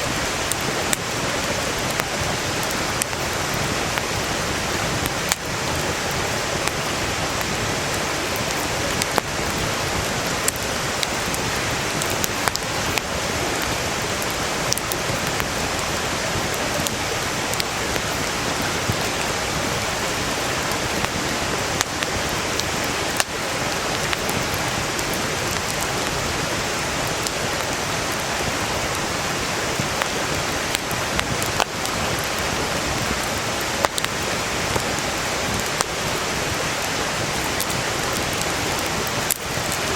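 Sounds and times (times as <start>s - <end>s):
campfire crackling: 0.0s - 39.9s
mountain stream rushing: 0.0s - 39.9s.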